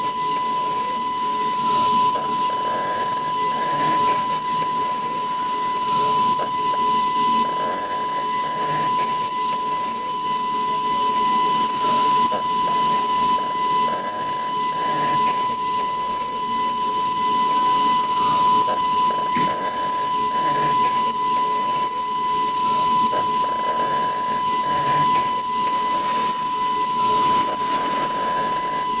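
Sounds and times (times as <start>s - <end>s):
milling machine spindle whine: 0.0s - 29.0s.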